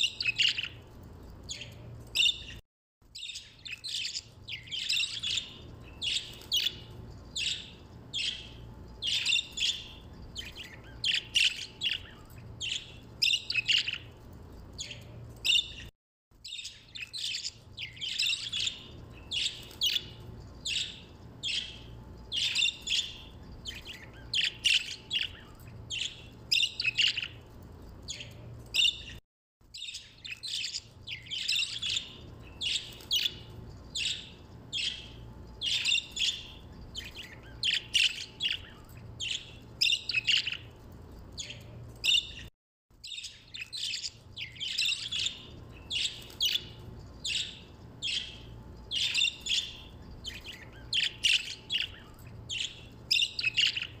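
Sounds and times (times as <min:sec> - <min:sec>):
budgerigars chirping and chattering: 0:00.0 - 0:00.9, 0:01.5 - 0:02.6, 0:03.2 - 0:14.2, 0:14.8 - 0:15.9, 0:16.5 - 0:27.4, 0:28.1 - 0:29.2, 0:29.8 - 0:40.8, 0:41.4 - 0:54.0.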